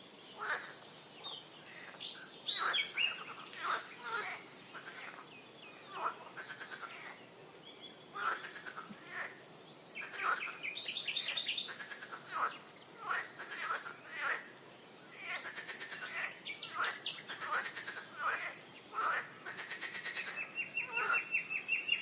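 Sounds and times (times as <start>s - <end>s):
frogs calling in chorus: 0.4s - 0.7s, 1.7s - 5.2s, 5.9s - 7.2s, 8.2s - 9.3s, 10.0s - 14.5s, 15.1s - 22.0s.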